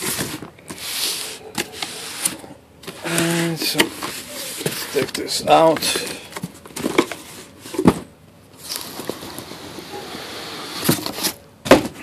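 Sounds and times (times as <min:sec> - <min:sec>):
cardboard rustling and scraping: 0:00.0 - 0:12.0.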